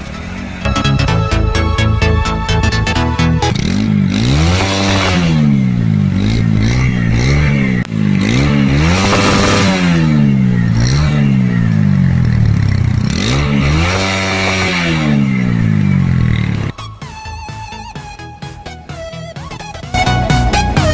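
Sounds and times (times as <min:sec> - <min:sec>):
motorcycle engine revving: 0:02.1 - 0:20.9.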